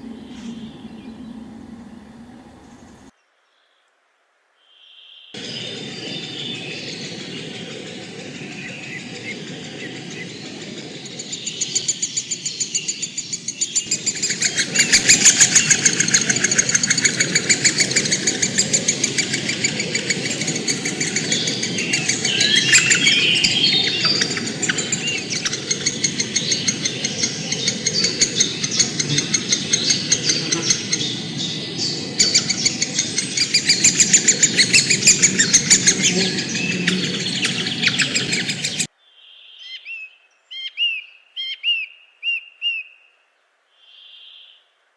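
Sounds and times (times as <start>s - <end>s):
chorus of birds chirping: 0.0s - 3.1s, 5.4s - 43.1s
low rumble: 0.0s - 3.1s, 5.4s - 38.9s.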